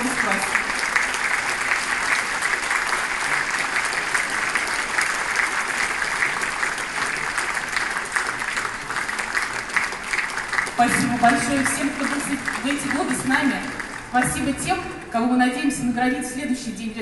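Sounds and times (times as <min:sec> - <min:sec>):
large audience applauding: 0:00.0 - 0:15.1.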